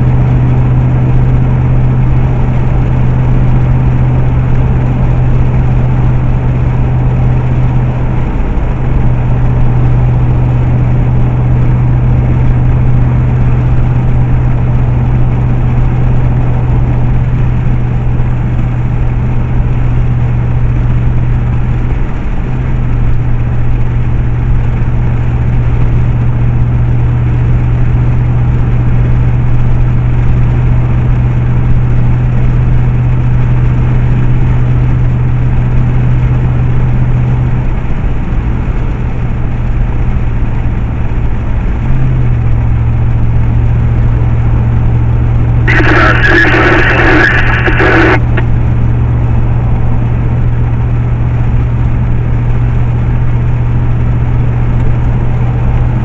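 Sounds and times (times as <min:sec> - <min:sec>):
road noise: 0:00.0 - 0:56.0
vehicle engine drone: 0:00.0 - 0:56.0.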